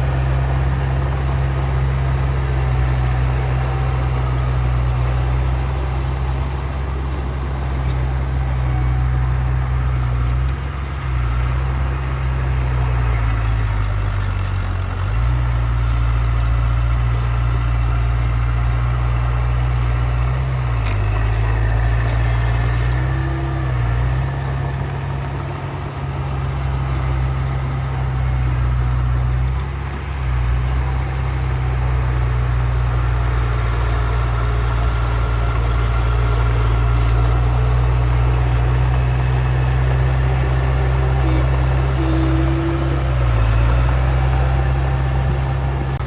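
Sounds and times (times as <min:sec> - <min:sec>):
diesel engine of heavy machine: 0:00.0 - 0:46.0.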